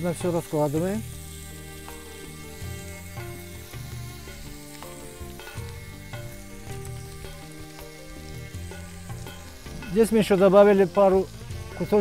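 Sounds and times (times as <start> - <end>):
background music with held notes: 0.0 - 12.0
meat fat sizzling and popping: 0.0 - 12.0.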